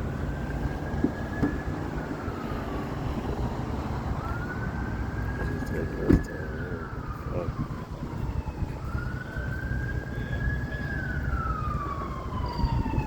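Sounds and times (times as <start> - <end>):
emergency siren wailing: 0.0 - 13.0
traffic and engine rumble: 0.0 - 13.0.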